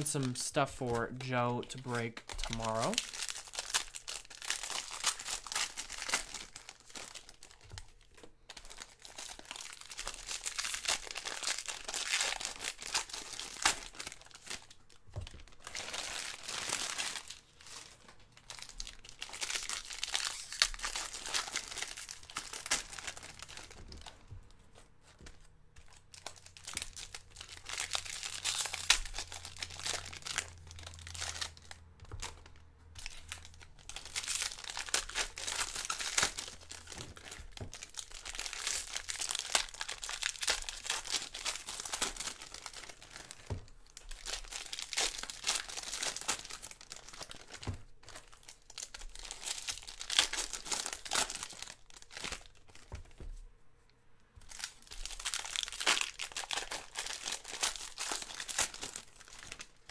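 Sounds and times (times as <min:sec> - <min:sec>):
foil wrappers tearing and crinkling: 0:00.0 - 0:24.2, 0:25.8 - 0:52.9, 0:54.4 - 0:59.9.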